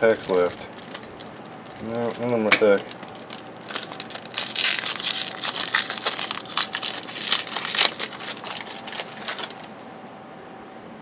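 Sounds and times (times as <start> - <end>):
wrapper torn open and crinkled: 0.0 - 9.8.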